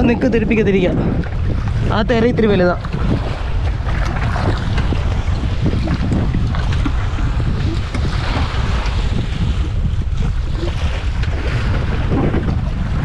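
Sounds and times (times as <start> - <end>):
waves splashing around boat: 0.0 - 13.0
wind buffeting microphone: 0.0 - 13.0.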